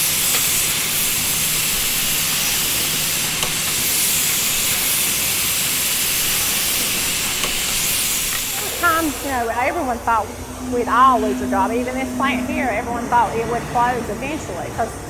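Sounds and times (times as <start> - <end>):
woodworking machinery hissing: 0.0 - 14.6.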